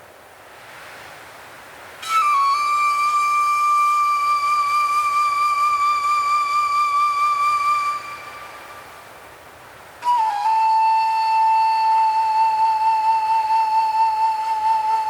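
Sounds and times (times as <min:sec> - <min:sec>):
faint even hiss: 0:00.0 - 0:15.0
flute holding high note: 0:02.0 - 0:09.2, 0:10.0 - 0:15.0.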